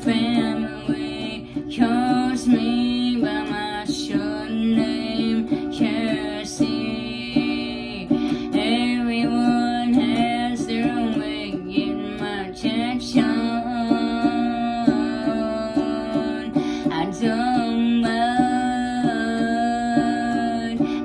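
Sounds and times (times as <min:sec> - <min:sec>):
guitar plucked and strummed: 0:00.0 - 0:21.0
person singing: 0:00.0 - 0:21.0.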